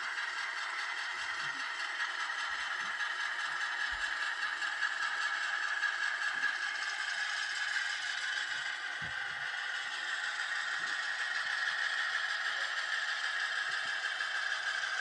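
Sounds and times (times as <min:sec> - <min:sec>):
model train wheels clattering: 0:00.0 - 0:15.0.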